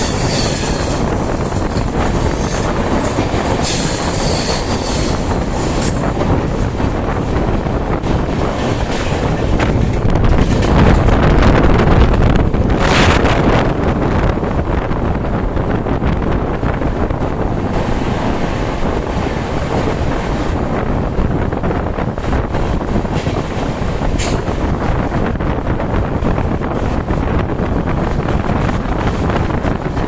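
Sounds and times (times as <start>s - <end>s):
moving train running noise: 0.0s - 30.0s
wind buffeting microphone: 0.0s - 30.0s.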